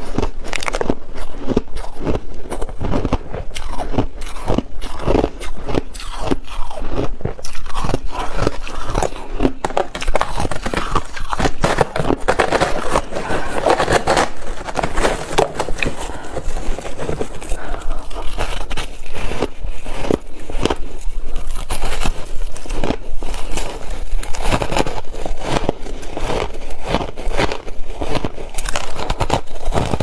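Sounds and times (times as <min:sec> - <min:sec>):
ice crunching while chewed: 0:00.0 - 0:30.0.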